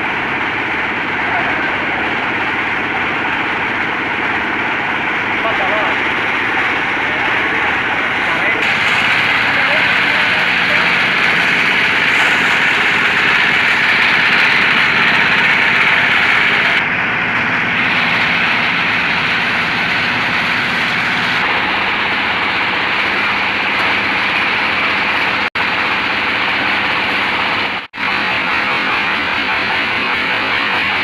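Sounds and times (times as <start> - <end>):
engine running loud: 0.0 - 31.0.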